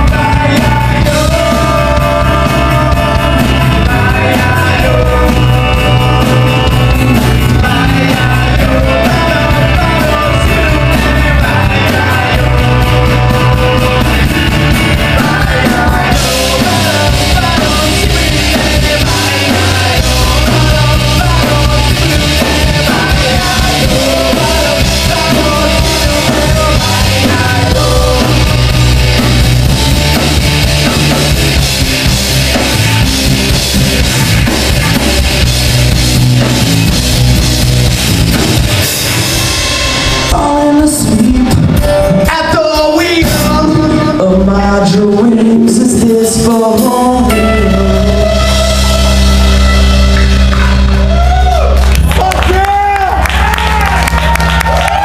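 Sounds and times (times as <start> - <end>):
person singing: 0.0 - 31.1, 39.6 - 55.0
drum kit and cymbals: 0.0 - 44.1
bass guitar: 0.0 - 55.0
guitars: 0.0 - 55.0.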